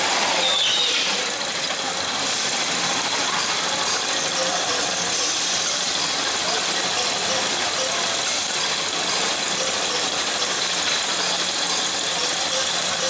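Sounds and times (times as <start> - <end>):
machinery running with low hum: 0.0 - 13.0.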